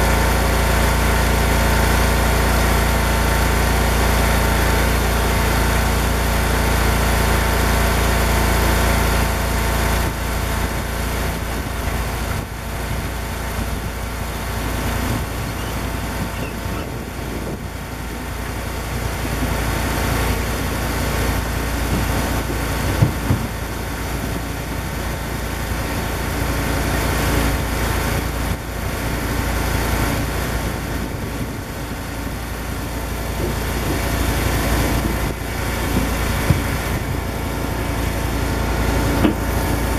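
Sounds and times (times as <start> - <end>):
firewood processor engine running: 0.0 - 39.9.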